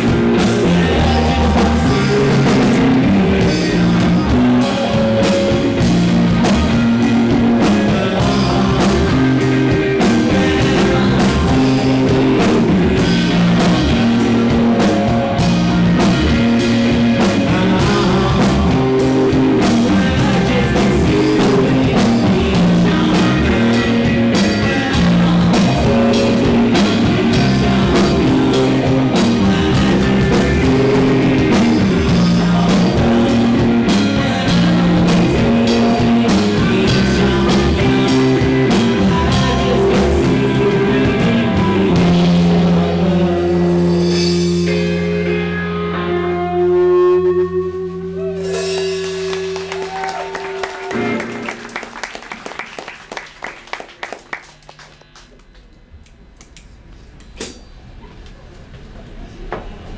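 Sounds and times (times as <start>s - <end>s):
drum kit beat: 0.0s - 46.1s, 47.7s - 55.2s
electric guitar: 0.0s - 56.6s
electric bass: 0.0s - 59.9s.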